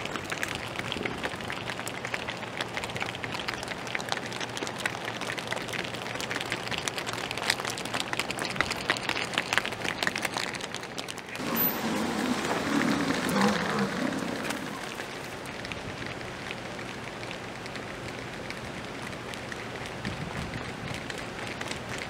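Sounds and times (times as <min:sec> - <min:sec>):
hooves clicking on asphalt: 0:00.0 - 0:22.0.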